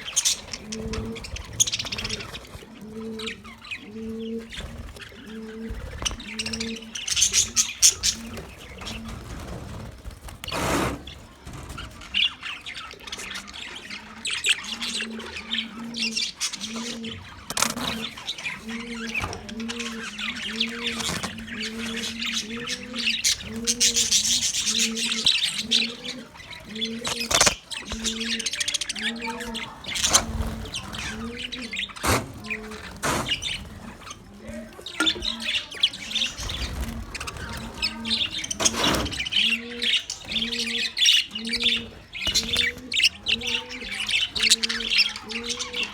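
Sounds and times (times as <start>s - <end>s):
budgies chirping: 0.0s - 45.9s.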